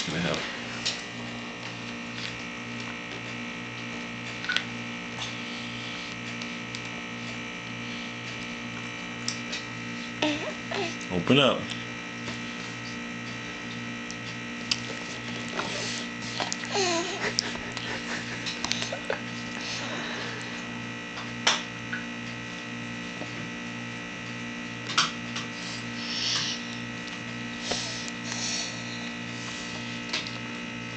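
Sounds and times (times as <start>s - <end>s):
electrical hum and buzz: 0.0s - 30.9s.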